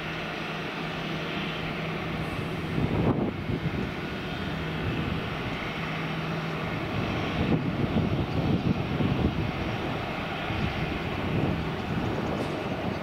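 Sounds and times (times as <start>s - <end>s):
airliner engines rushing: 0.0s - 13.0s.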